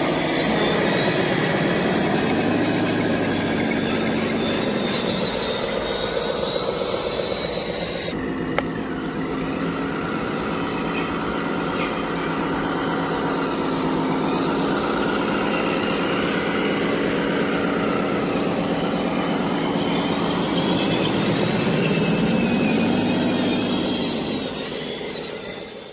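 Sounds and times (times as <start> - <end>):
model trucks engine-like hum: 0.0 - 25.9.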